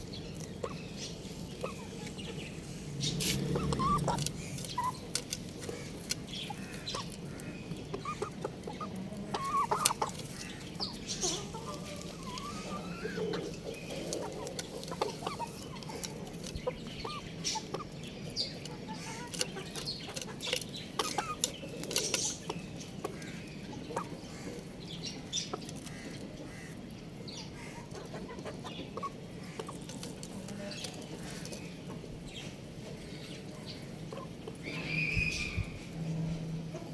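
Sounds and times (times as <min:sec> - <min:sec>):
young rooster clucking: 0:00.0 - 0:24.8, 0:25.4 - 0:35.9.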